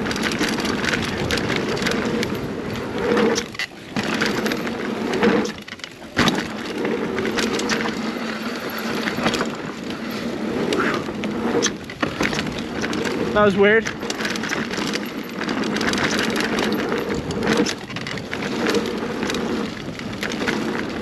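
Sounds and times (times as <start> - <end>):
bike clattering: 0.0 - 21.0
bike tyres rattling on dirt trail: 0.0 - 21.0.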